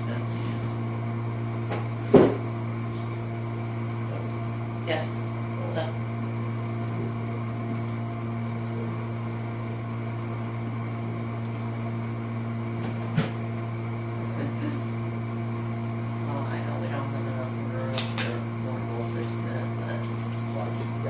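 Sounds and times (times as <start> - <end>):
dishwasher pump hum: 0.0 - 21.0.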